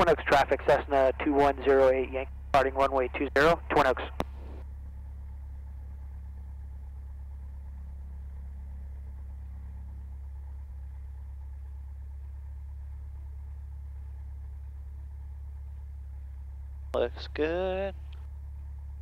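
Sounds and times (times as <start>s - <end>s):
aircraft engine droning: 0.0s - 19.0s.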